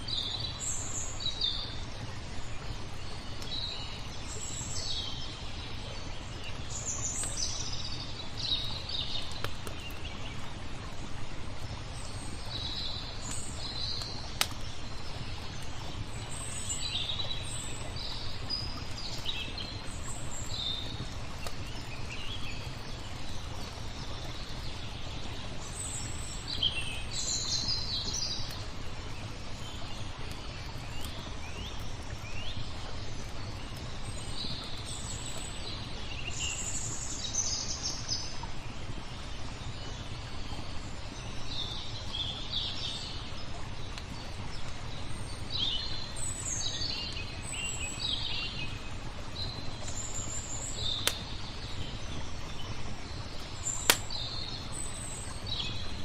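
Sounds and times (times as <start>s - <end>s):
wood fire crackles: 0.0s - 37.4s, 38.2s - 56.0s
songbirds chirping: 0.0s - 56.0s.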